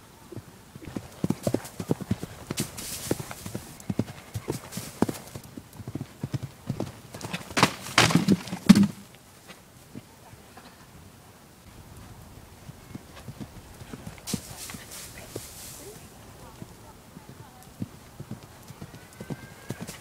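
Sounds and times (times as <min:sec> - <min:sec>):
horse cantering on sand: 0:00.0 - 0:10.5, 0:11.7 - 0:20.0
hoof impacts and scuffling: 0:00.8 - 0:10.2, 0:12.0 - 0:20.0.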